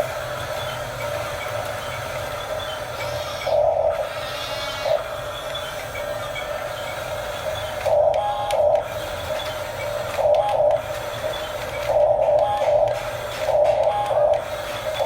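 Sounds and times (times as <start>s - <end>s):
electric motors and gearbox whirring: 0.0s - 15.0s.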